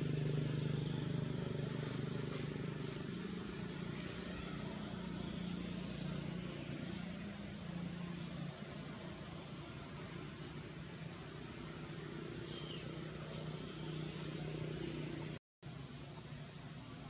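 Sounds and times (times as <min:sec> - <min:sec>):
distant engine drone: 0:00.0 - 0:17.0.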